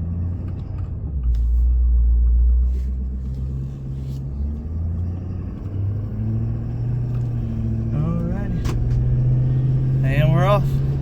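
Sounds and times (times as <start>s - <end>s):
pickup truck engine accelerating: 0.0s - 11.0s.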